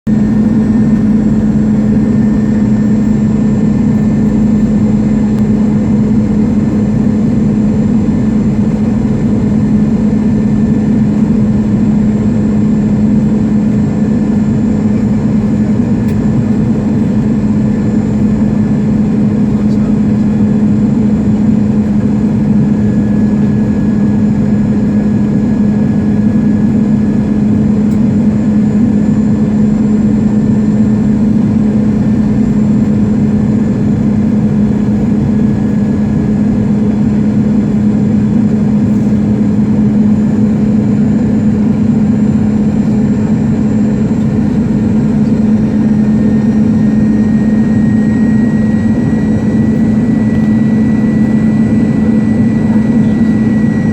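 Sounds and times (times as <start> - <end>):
jet cabin engine drone: 0.0 - 53.9
faint high whine: 0.1 - 53.9.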